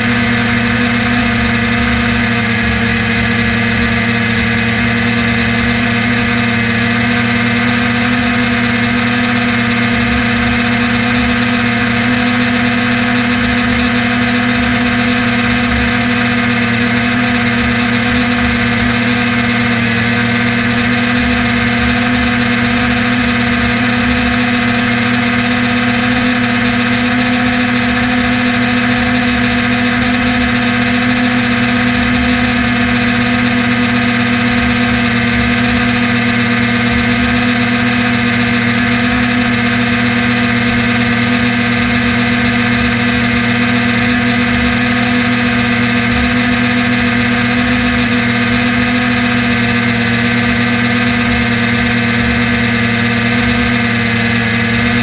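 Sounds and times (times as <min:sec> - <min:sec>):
small aircraft propeller drone: 0:00.0 - 0:55.0.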